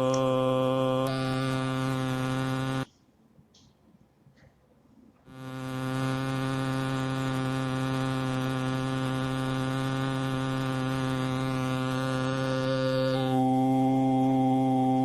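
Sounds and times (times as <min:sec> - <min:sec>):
low-pitched artificial vocal buzz: 0:00.0 - 0:02.9, 0:05.3 - 0:15.0.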